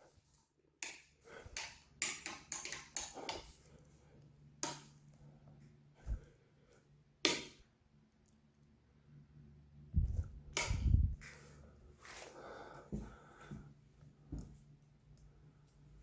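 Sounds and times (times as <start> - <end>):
faint low hum: 2.8 - 16.0.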